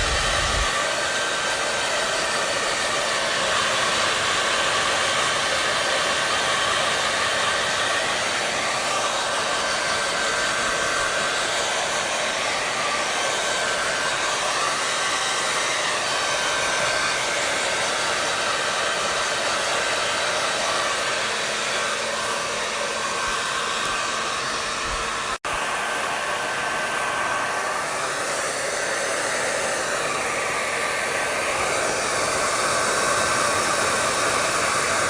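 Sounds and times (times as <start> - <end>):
hair dryer running: 0.0 - 35.0.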